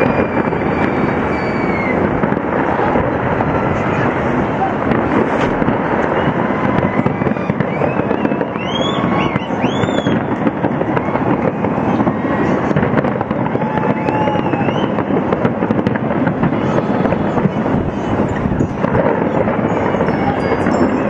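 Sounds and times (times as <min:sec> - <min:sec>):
firework whistles: 0:00.0 - 0:21.0
fireworks bangs and crackling: 0:00.0 - 0:21.0.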